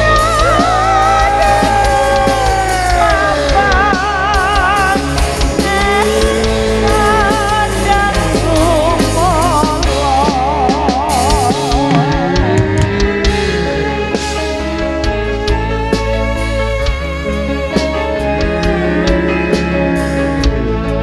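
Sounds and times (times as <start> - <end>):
continuous bass: 0.0 - 21.0
drums keeping a steady beat: 0.0 - 21.0.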